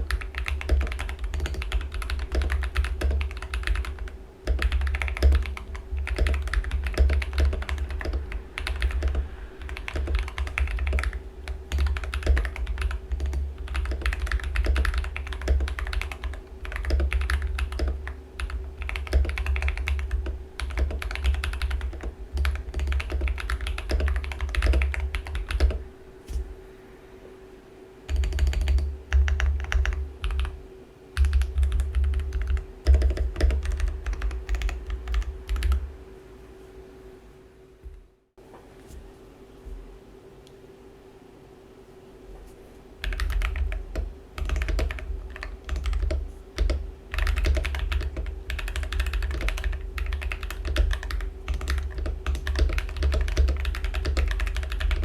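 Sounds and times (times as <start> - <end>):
mechanical keyboard typing: 0.0 - 25.8, 28.1 - 30.6, 31.2 - 35.9, 43.0 - 55.0.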